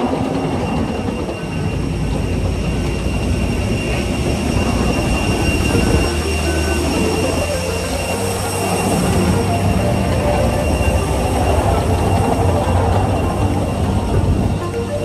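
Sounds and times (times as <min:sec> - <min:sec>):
faint high whining tones: 0:00.0 - 0:15.0
machinery rumble: 0:00.0 - 0:15.0
wind buffeting microphone: 0:00.0 - 0:15.0.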